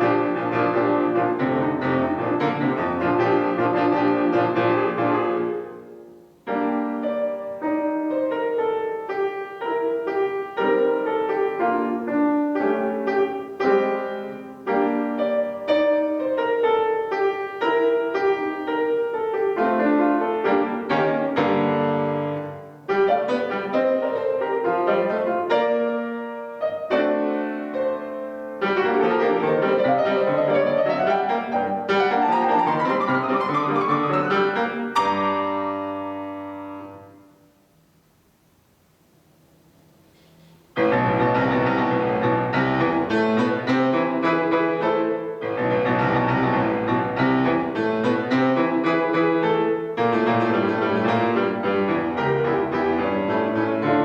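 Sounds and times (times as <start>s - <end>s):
solo piano piece: 0.0s - 54.0s.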